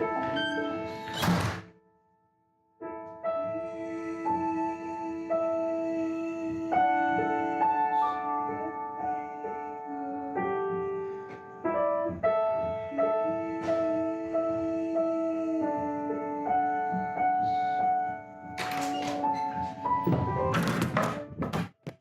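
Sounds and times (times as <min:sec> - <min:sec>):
piano playing slow chords: 0:00.0 - 0:02.0, 0:02.8 - 0:21.3.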